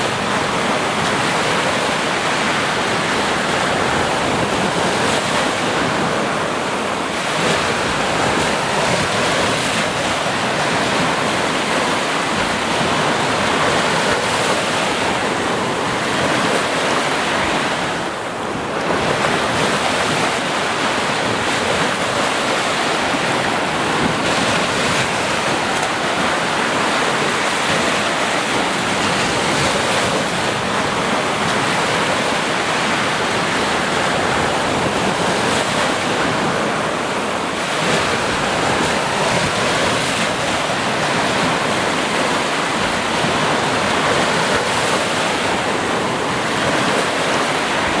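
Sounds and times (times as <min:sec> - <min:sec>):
sea waves washing on beach: 0:00.0 - 0:48.0.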